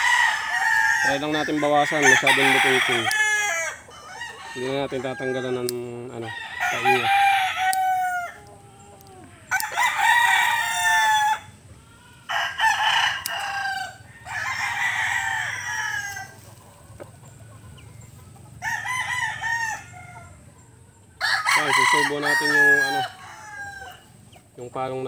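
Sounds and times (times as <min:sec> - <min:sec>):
roosters crowing: 0:00.0 - 0:25.0.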